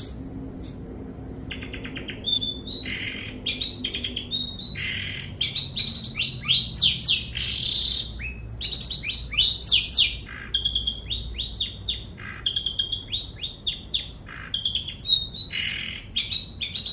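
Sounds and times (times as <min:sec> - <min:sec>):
shrike singing: 0:01.5 - 0:16.9.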